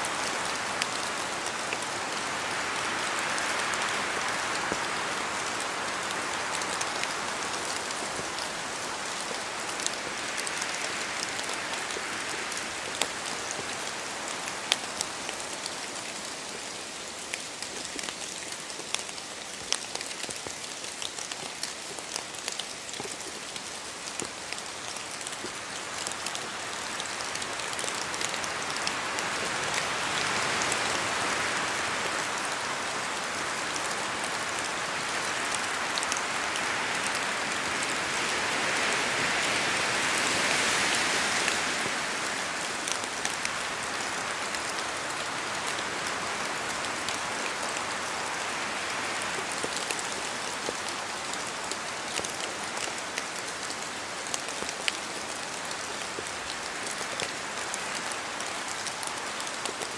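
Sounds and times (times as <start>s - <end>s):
steady rain in forest: 0.0s - 59.9s.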